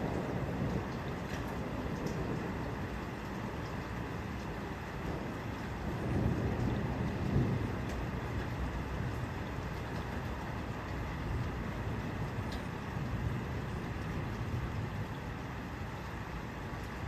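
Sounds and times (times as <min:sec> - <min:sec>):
rain: 0:00.0 - 0:17.0.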